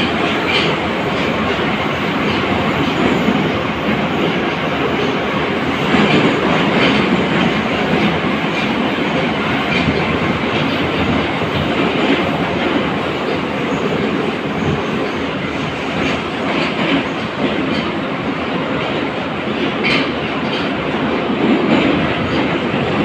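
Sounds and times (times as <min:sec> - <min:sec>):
metro train rumble and rail noise: 0:00.0 - 0:23.0.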